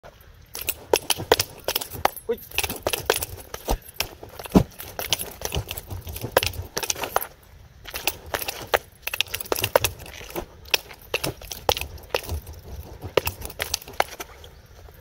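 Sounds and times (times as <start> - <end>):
nunchaku chains rattling: 0.5 - 14.3.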